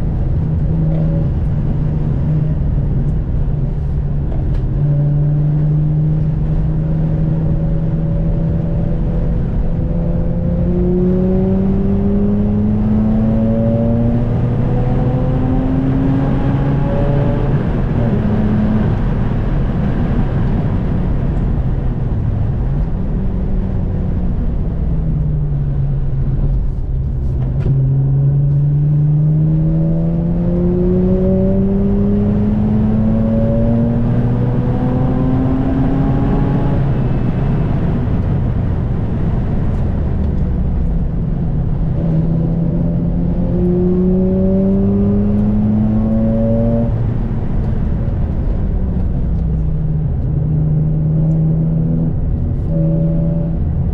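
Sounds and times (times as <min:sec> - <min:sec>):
rotary engine accelerating: 0:00.0 - 0:21.7, 0:27.1 - 0:53.9.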